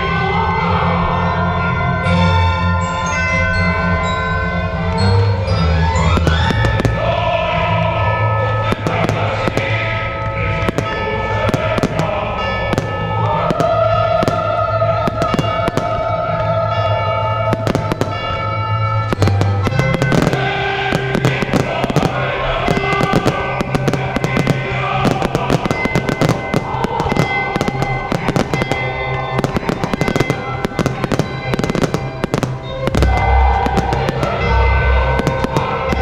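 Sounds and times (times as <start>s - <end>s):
loud music soundtrack: 0.0s - 36.0s
fireworks bursting and crackling: 4.9s - 36.0s.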